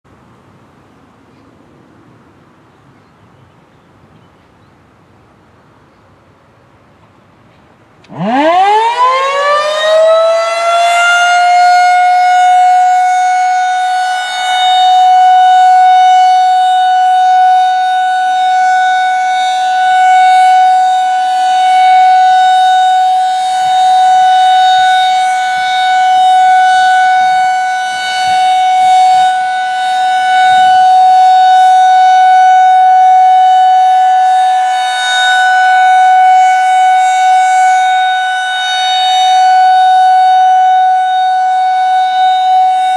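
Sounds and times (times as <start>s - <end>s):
rotating warning siren: 8.0s - 42.9s.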